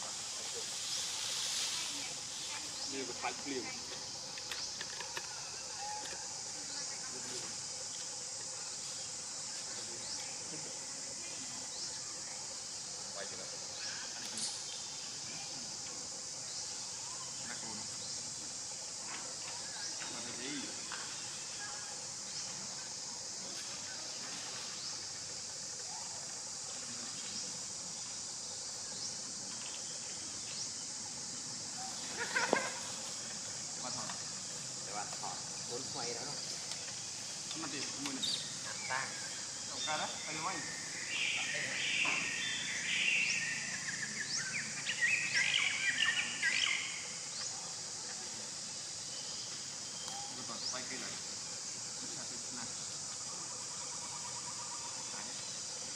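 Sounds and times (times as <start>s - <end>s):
insects droning: 0.0s - 55.9s
steady high hiss: 0.0s - 55.9s.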